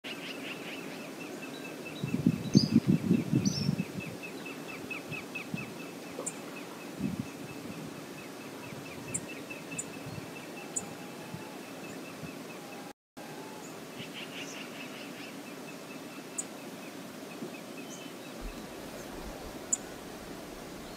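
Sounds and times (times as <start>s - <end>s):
river hiss: 0.1s - 3.0s, 3.8s - 20.9s.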